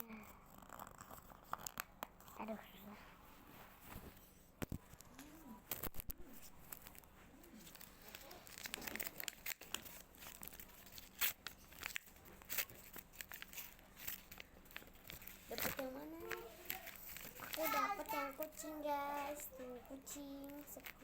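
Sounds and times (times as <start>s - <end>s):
paper and tape crinkling and tearing: 3.8s - 21.0s.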